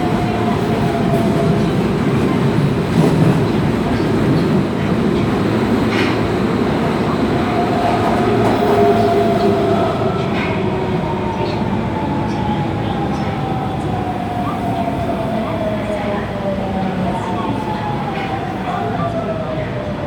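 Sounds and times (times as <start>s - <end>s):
subway train inverter whine: 0.0s - 20.0s
wheels rumbling on rail: 0.0s - 20.0s.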